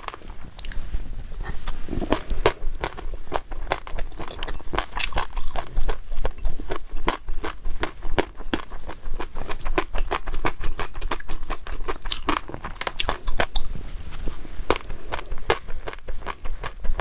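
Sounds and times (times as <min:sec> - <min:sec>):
person chewing and biting food: 0:00.0 - 0:00.8, 0:01.5 - 0:17.0.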